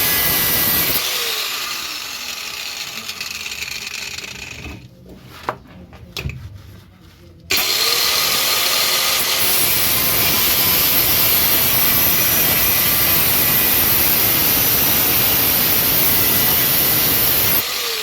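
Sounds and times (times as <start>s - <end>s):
power tool grinding: 0.0s - 4.6s, 7.5s - 18.0s.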